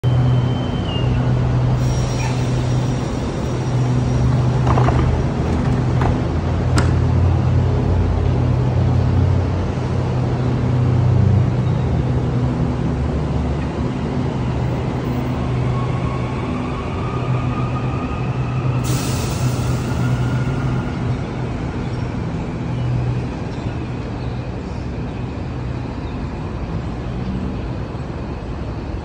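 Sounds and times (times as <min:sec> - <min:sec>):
electric train humming: 0:00.0 - 0:26.5.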